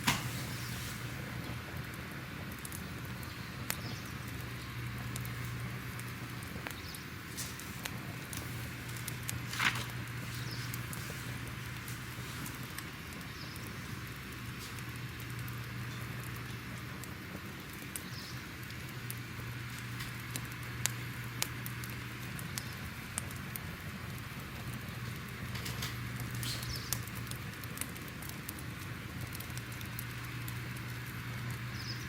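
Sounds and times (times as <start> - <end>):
fire crackling: 0.0 - 32.0
fire pops and snaps: 0.0 - 32.0.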